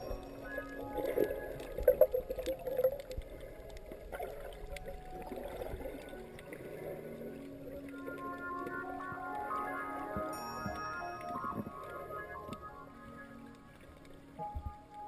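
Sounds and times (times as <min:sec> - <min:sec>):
faint soft background music: 0:00.0 - 0:15.0
water gurgling and sloshing: 0:00.0 - 0:15.0.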